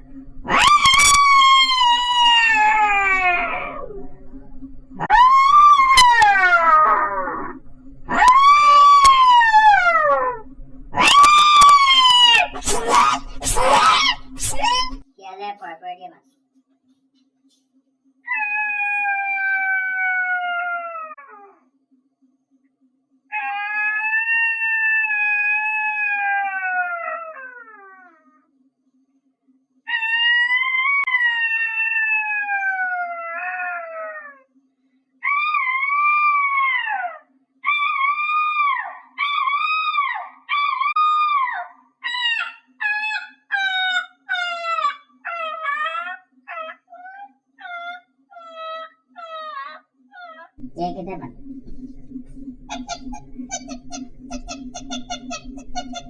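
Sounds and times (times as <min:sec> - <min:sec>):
woman howling animal imitation: 0:00.5 - 0:04.0, 0:05.0 - 0:15.0, 0:18.3 - 0:21.6, 0:23.3 - 0:28.4, 0:29.9 - 0:34.5, 0:35.2 - 0:51.3, 0:52.7 - 0:56.0.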